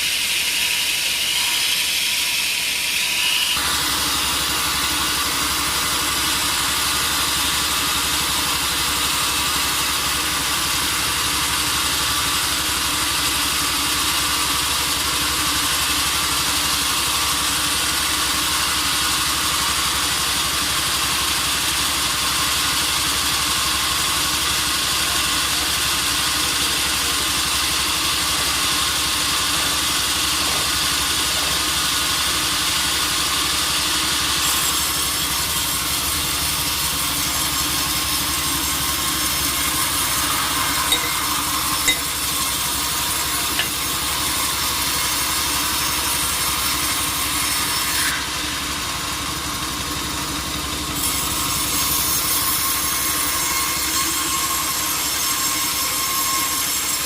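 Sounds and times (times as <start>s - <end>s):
sawing: 0.0s - 57.0s
sawmill machinery humming: 0.0s - 57.0s.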